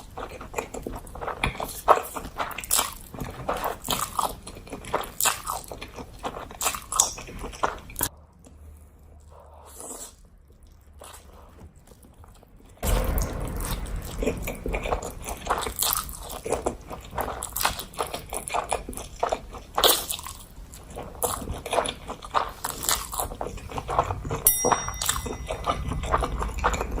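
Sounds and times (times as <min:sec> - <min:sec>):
crunchy food chewing: 0:00.0 - 0:24.4, 0:25.0 - 0:27.0.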